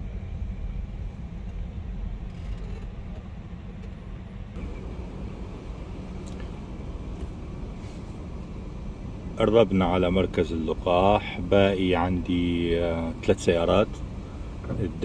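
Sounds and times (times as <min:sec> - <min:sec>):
car rumble inside cabin: 0:00.2 - 0:15.0.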